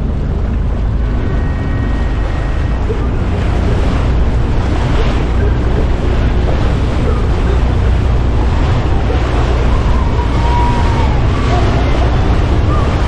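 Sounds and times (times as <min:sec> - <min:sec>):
steady low rumble: 0:00.0 - 0:13.0
water slapping against boat: 0:00.0 - 0:13.0
wind buffeting microphone: 0:00.0 - 0:13.0.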